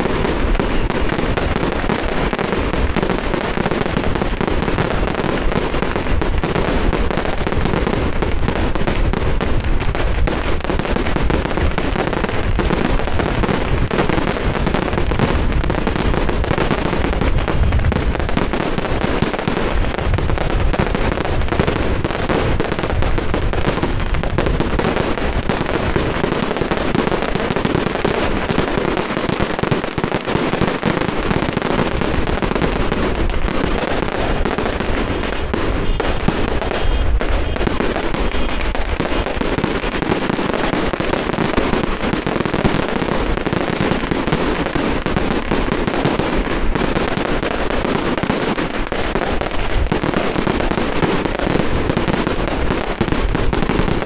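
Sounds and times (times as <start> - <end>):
firecrackers crackling: 0.0 - 54.0.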